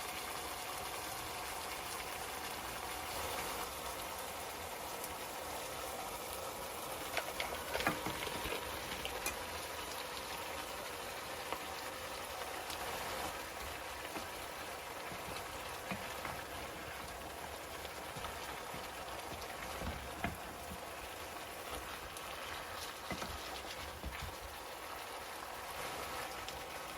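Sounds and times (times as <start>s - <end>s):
food hissing on stove: 0.0s - 26.9s.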